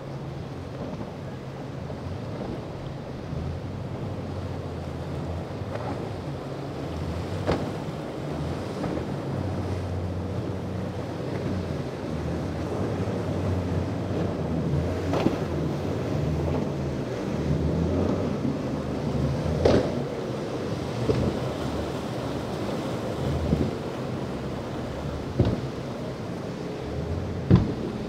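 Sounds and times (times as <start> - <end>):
boat engines running: 0.0 - 28.0
surf: 0.0 - 28.0
wind buffeting microphone: 0.2 - 28.0.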